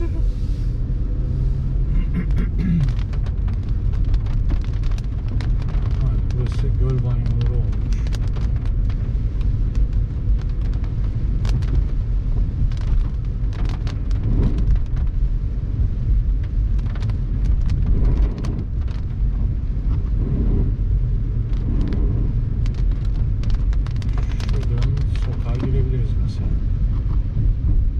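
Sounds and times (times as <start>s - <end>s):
wind buffeting microphone: 2.8s - 27.9s.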